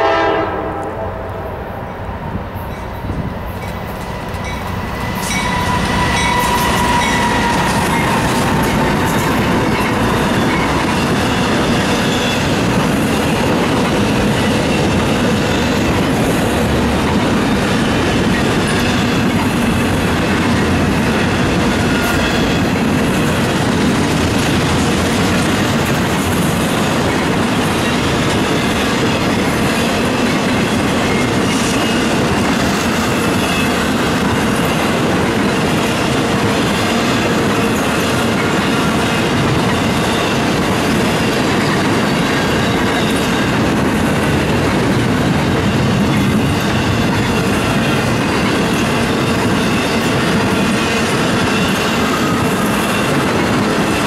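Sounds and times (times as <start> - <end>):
freight train rattling past: 0.0 - 54.0.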